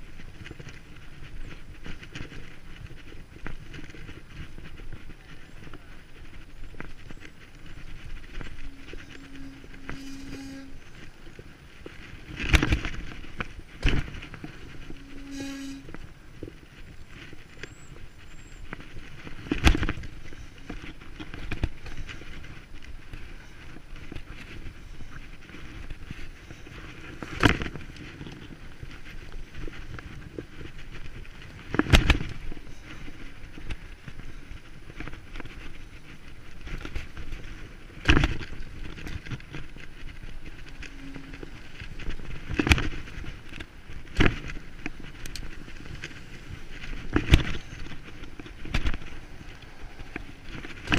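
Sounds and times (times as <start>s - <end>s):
bicycle riding rumble: 0.0s - 50.9s.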